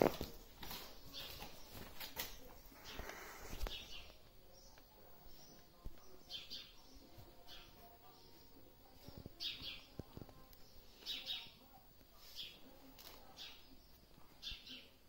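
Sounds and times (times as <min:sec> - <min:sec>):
faint bird chirps: 0:02.7 - 0:15.0.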